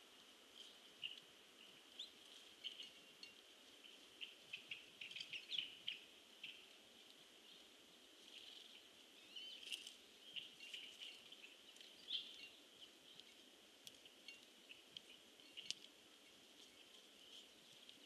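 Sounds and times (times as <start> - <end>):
soft hiss: 0.0 - 18.0
bird chips and calls: 1.0 - 6.7, 8.3 - 18.0.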